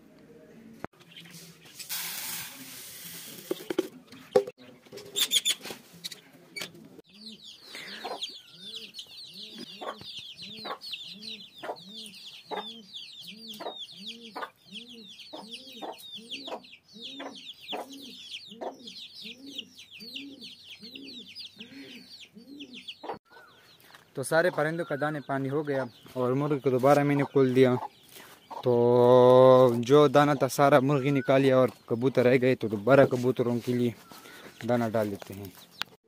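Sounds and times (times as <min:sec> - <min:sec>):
chicks peeping: 0:06.6 - 0:36.0.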